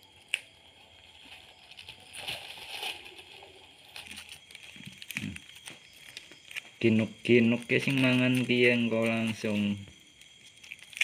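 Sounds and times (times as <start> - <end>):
handling noise rustling: 0.7 - 11.0.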